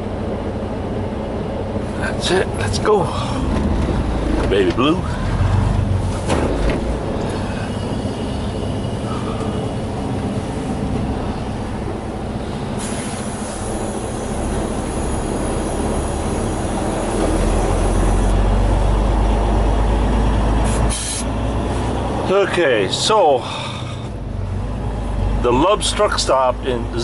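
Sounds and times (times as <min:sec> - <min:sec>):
truck diesel engine rumble: 0:00.0 - 0:27.0.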